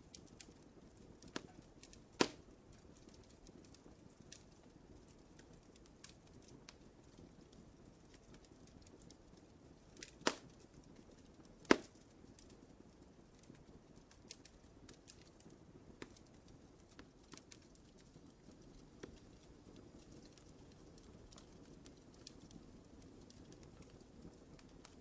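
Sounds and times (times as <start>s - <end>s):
fire crackles and pops: 0.0s - 25.0s
low rumble of flames: 0.0s - 25.0s.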